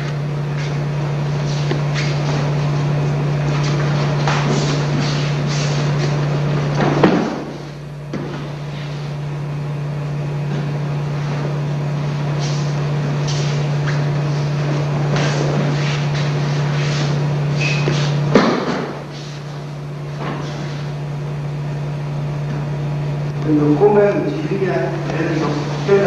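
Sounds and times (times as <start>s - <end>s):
low electrical hum with hiss: 0.0s - 26.0s.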